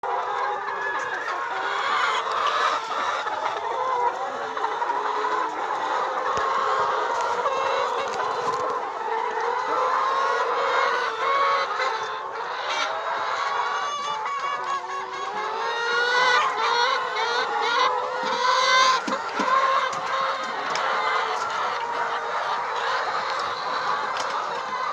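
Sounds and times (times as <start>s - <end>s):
hens clucking: 0.0s - 24.9s.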